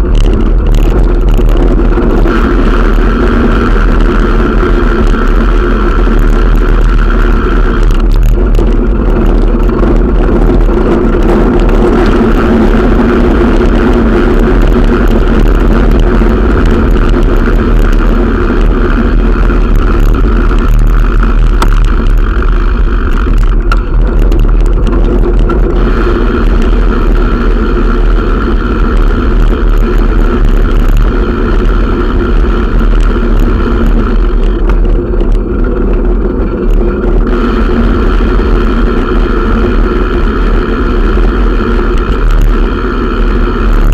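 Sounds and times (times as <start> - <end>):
constant hum: 0.0 - 43.9
tyres rolling on pavement: 0.0 - 43.9
wind on microphone: 0.0 - 43.9.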